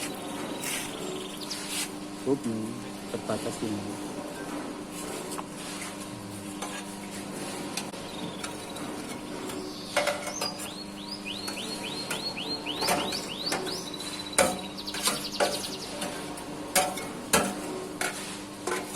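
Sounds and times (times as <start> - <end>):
motor hum: 0.0 - 17.4.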